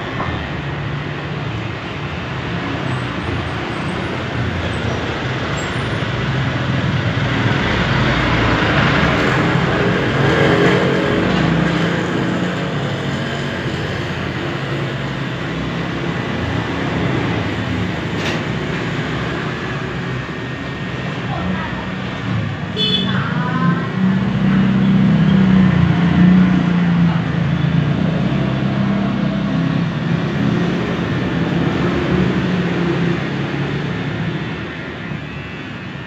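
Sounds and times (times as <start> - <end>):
road traffic rushing: 0.0 - 36.0.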